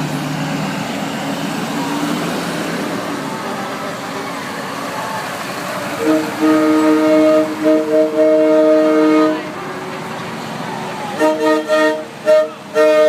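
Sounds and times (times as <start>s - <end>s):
large trucks passing: 0.0s - 13.0s.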